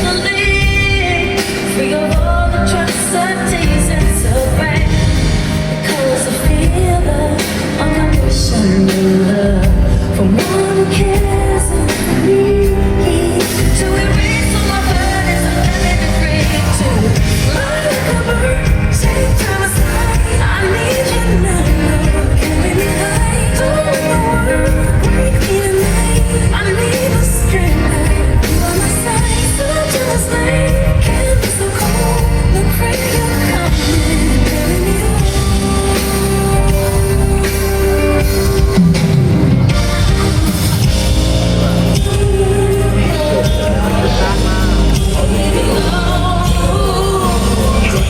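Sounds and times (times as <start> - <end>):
live pop ballad through pa: 0.0 - 48.0
woman singing: 0.0 - 48.0.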